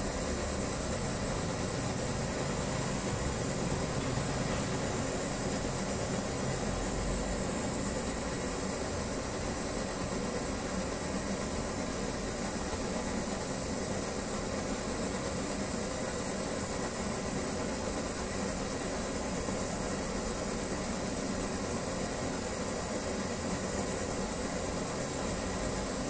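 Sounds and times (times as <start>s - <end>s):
kerosene stove hissing: 0.0s - 26.0s.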